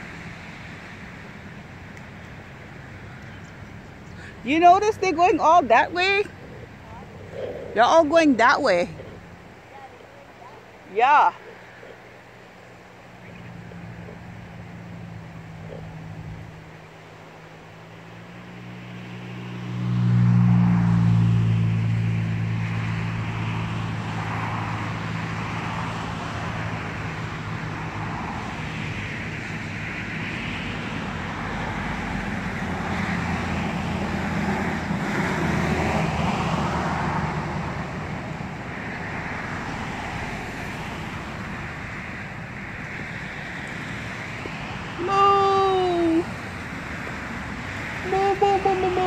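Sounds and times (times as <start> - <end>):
road traffic noise: 0.0 - 49.0
vehicle engine humming: 0.0 - 49.0.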